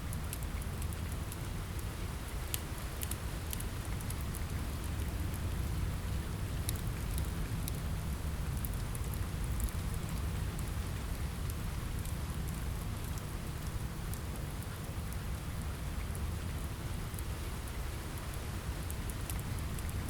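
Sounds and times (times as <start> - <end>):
rain on a window: 0.0 - 20.0
wood fire crackling: 0.1 - 20.0.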